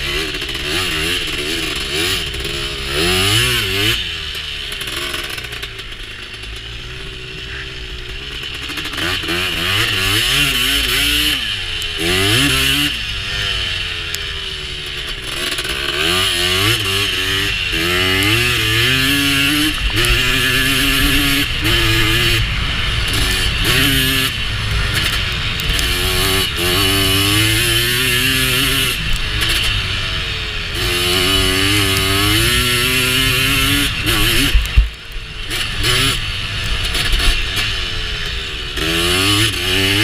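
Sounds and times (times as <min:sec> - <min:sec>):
two-stroke engine revving: 0:00.0 - 0:40.0.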